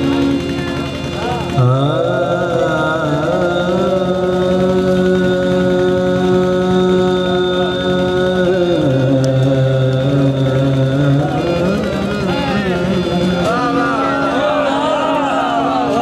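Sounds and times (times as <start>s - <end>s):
person singing: 0.0s - 16.0s
sustained drone: 0.0s - 16.0s.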